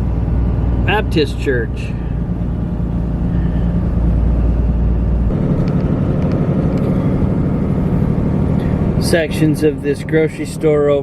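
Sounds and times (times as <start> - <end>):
car driving on road: 0.0 - 11.0.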